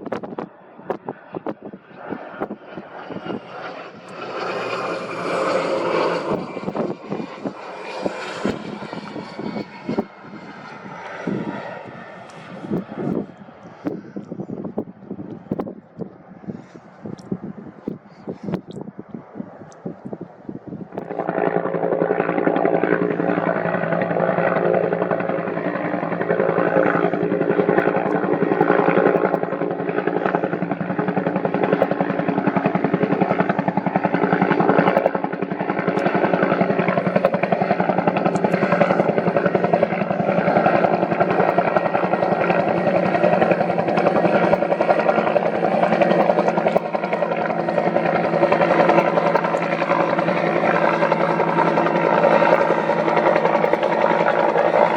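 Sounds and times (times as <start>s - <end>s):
helicopter rotor and turbine: 0.0s - 54.9s.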